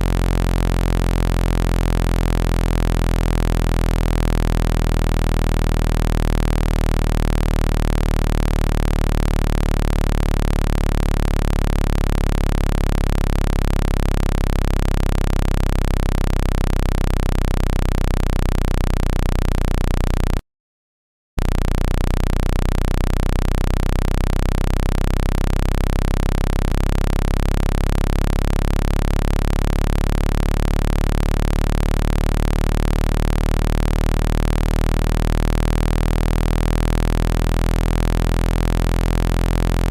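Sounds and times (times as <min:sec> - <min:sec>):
low buzzy electronic tone: 0:00.0 - 0:20.4, 0:21.4 - 0:39.9.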